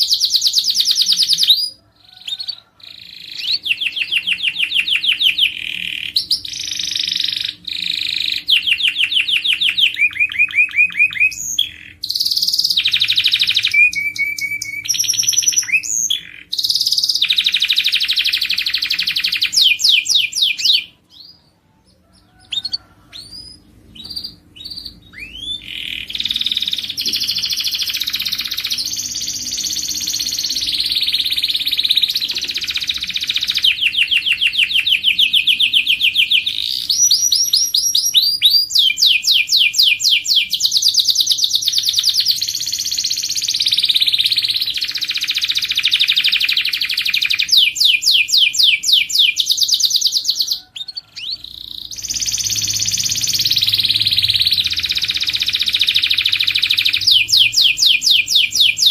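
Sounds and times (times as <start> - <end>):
canary short chirps: 0.0 - 58.9
canary singing trills: 0.0 - 58.9.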